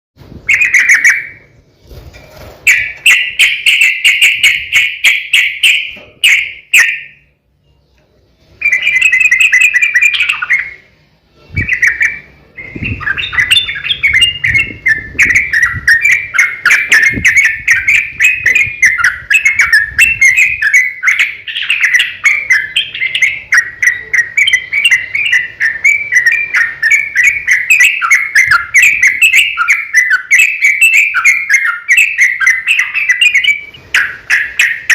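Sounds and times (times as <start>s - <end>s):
bulbul singing: 0.4s - 1.6s, 2.7s - 34.9s.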